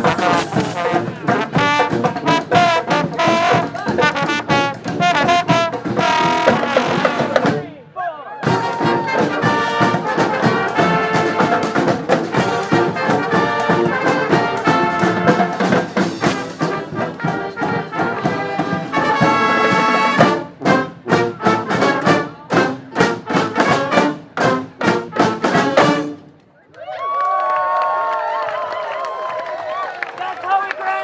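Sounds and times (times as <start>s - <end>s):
brass band playing: 0.0s - 7.7s, 8.4s - 26.3s.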